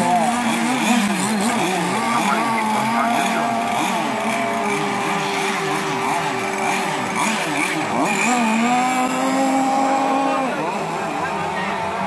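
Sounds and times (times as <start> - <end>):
engine revving high: 0.0 - 12.0
model boat engines running: 0.0 - 12.0.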